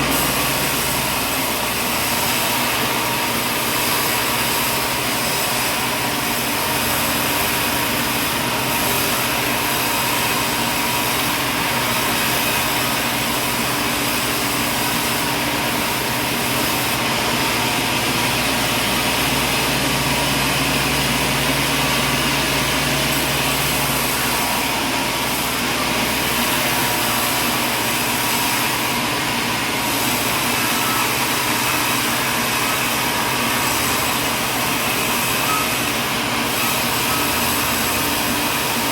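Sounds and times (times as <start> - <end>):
machinery hiss and drone: 0.0 - 38.9.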